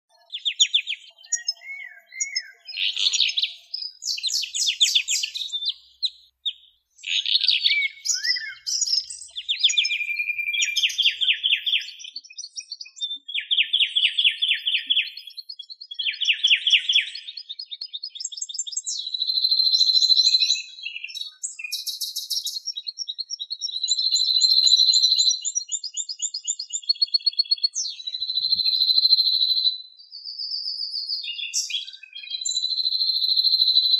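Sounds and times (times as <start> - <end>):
songbird singing trills: 0.1 - 33.9.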